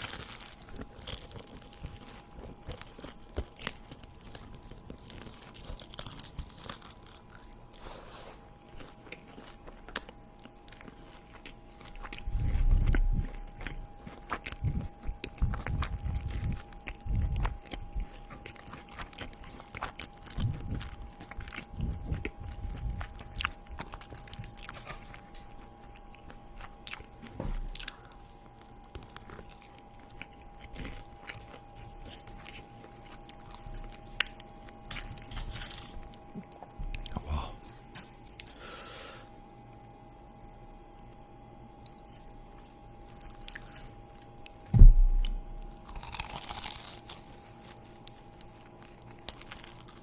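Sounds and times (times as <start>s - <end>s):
crunching: 0.0s - 36.3s, 41.8s - 50.0s
person chewing food: 0.0s - 39.9s, 41.0s - 50.0s.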